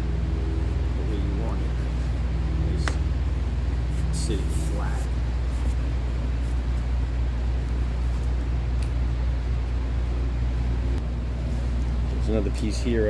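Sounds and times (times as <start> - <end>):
low mechanical hum with hiss: 0.0 - 13.0.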